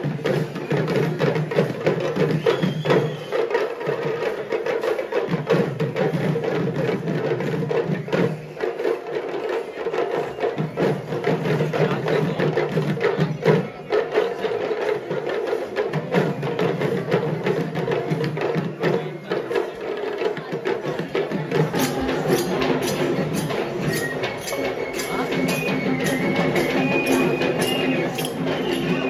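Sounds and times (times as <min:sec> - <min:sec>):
fast drumming: 0:00.0 - 0:29.0.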